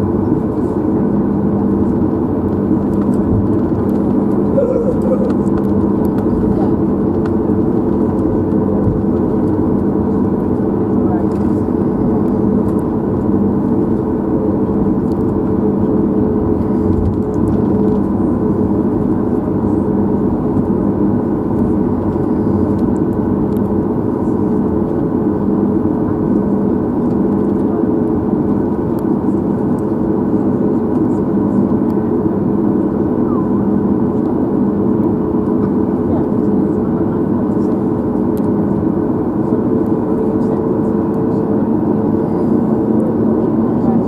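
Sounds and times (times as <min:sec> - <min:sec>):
aircraft cabin engine hum: 0:00.0 - 0:44.0.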